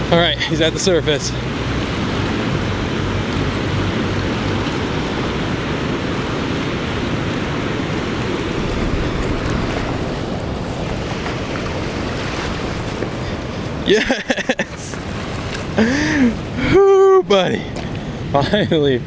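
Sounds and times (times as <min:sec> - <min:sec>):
water rushing through spillway: 0:00.0 - 0:17.5.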